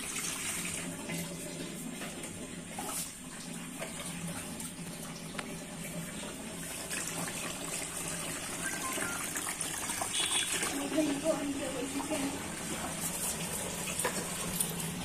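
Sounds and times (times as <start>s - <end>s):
water pouring into plastic tank: 0.0s - 15.0s.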